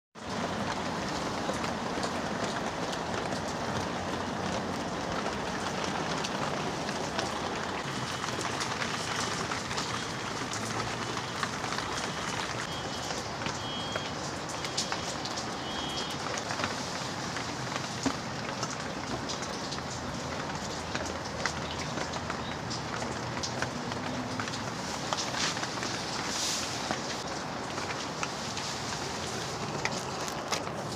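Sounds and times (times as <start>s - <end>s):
rain drops tapping on a surface: 0.2s - 30.9s.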